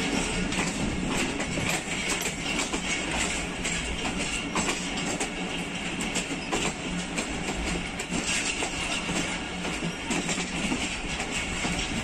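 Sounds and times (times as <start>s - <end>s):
train clicks and knocks: 0.0s - 12.0s
train wheels rumbling on rails: 0.0s - 12.0s.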